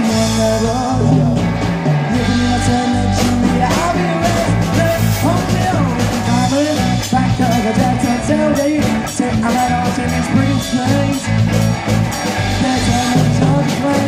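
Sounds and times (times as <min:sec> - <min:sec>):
bass guitar: 0:00.0 - 0:14.0
drum kit beat: 0:00.0 - 0:14.0
electric guitar: 0:00.0 - 0:14.0
rock band playing: 0:00.0 - 0:14.0.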